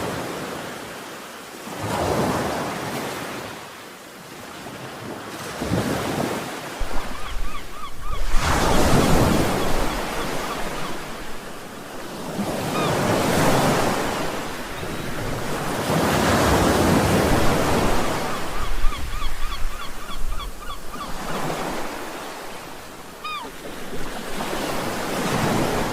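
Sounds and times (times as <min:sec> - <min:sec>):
sea waves breaking on shore: 0:00.0 - 0:25.9.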